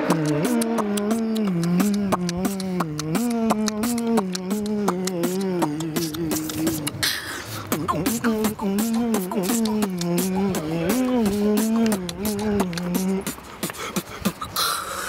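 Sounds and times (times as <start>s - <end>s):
hissing mouth sound: 0.0s - 15.0s
man humming bass line: 0.0s - 15.0s
percussive mouth clicks: 0.0s - 15.0s.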